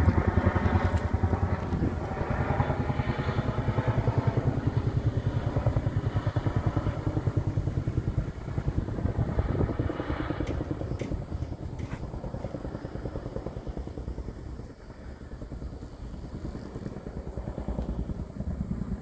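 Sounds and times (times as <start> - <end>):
helicopter rotor thumping: 0.0 - 14.8, 15.4 - 19.0.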